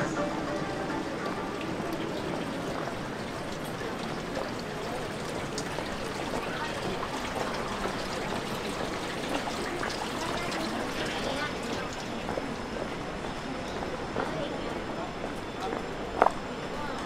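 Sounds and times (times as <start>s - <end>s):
faint voices: 0.0s - 17.0s
running water: 0.0s - 17.0s.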